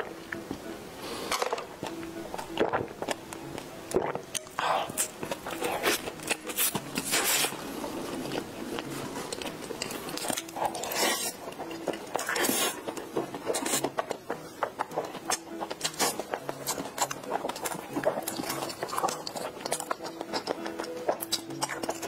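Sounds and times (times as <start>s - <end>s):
wet chewing sounds: 1.8s - 22.0s.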